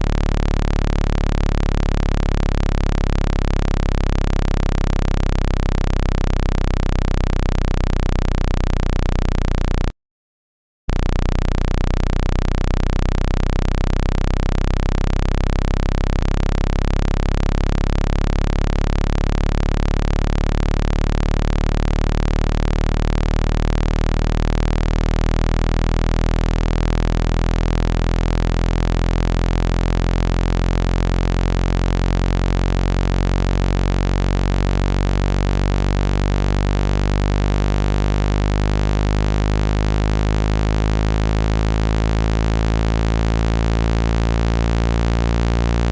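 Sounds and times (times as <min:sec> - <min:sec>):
loud low synthesized buzz: 0:00.0 - 0:09.9, 0:10.9 - 0:45.9.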